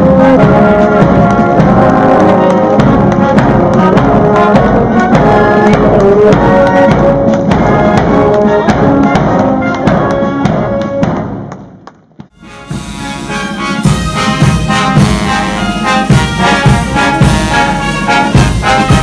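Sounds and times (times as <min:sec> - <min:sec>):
military marching band playing: 0:00.0 - 0:19.0.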